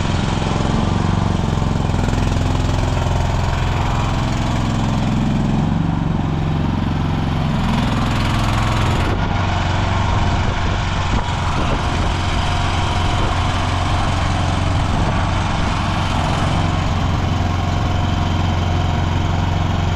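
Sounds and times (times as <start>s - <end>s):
excavator engine running: 0.0s - 19.9s.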